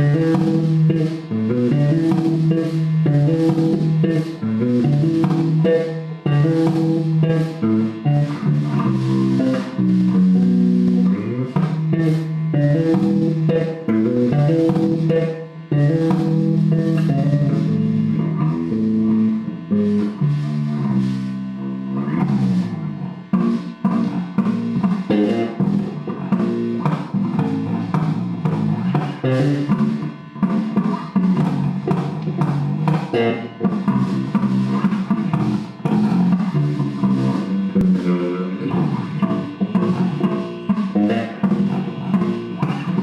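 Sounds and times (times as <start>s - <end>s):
plucked guitar line: 0.0s - 43.0s.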